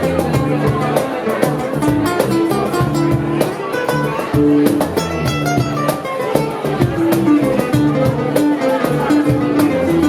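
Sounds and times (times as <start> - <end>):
bass guitar: 0.0 - 10.0
drum hits: 0.0 - 10.0.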